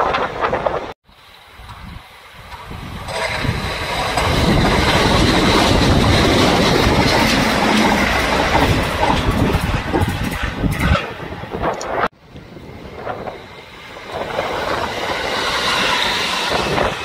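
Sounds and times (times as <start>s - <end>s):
electric train passing: 0.0s - 17.0s
train wheels clicking: 1.6s - 17.0s.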